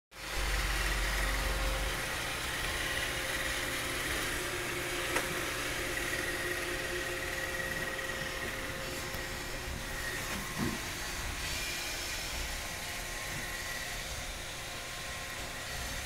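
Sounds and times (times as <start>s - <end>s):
robot vacuum motor hum: 0.2s - 16.0s.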